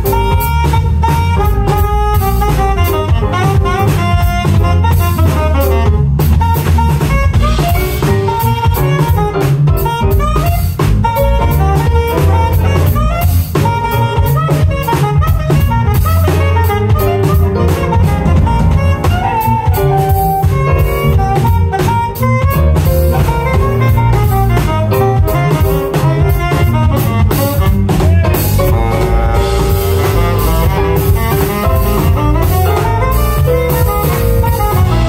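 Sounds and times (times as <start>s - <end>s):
bass: 0.0s - 35.0s
drum kit: 0.0s - 35.0s
keyboards: 0.0s - 35.0s
saxophone melody: 0.0s - 35.0s.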